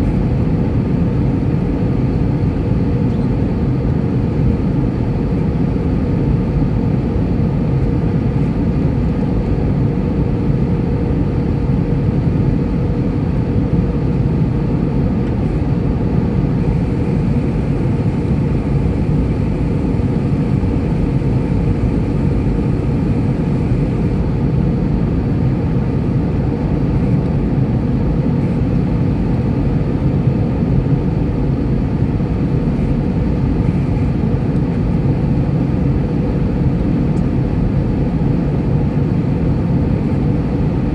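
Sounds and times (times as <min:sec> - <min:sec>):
airplane cabin drone: 0:00.0 - 0:40.9
held engine hum: 0:00.0 - 0:40.9.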